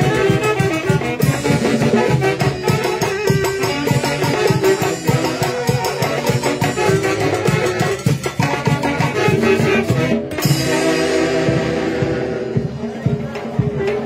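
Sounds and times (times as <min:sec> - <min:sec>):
latin dance music: 0:00.0 - 0:14.0.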